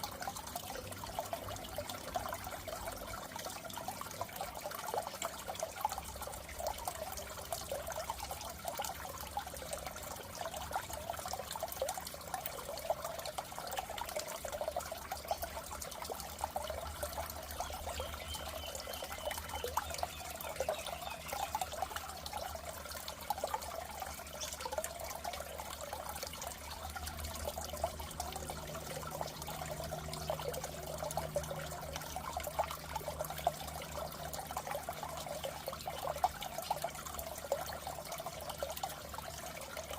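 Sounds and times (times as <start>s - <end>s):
water trickling in a fish tank: 0.0s - 39.9s.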